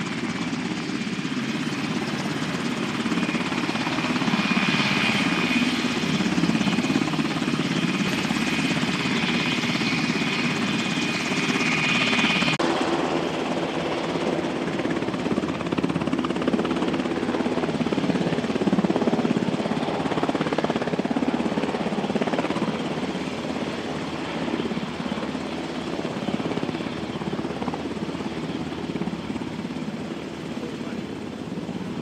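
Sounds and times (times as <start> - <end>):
helicopter rotor beating: 0.0 - 32.0.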